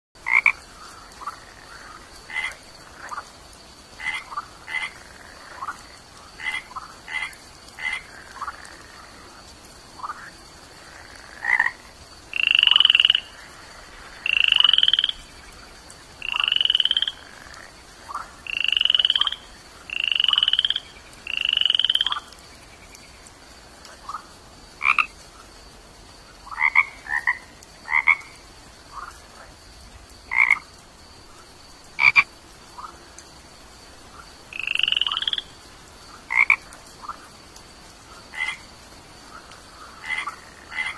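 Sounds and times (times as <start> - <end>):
frog calls: 0.2 - 9.4, 10.0 - 25.2, 26.4 - 29.6, 30.3 - 30.7, 31.3 - 33.0, 34.1 - 37.3, 38.2 - 40.9.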